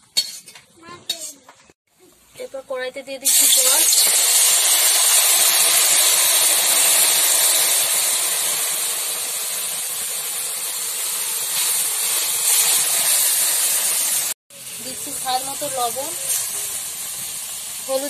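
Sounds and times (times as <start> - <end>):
water hissing in hot pan: 3.2 - 18.0.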